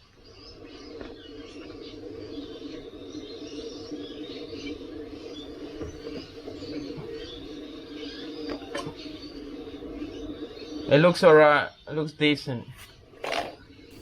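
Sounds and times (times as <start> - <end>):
wheel spinning hum: 0.0 - 14.0.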